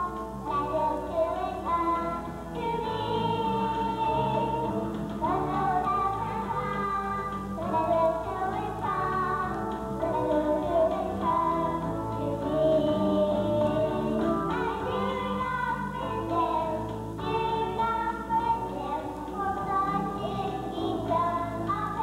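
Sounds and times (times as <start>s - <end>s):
girls singing into microphones: 0.0s - 22.0s
instrumental accompaniment: 0.0s - 22.0s.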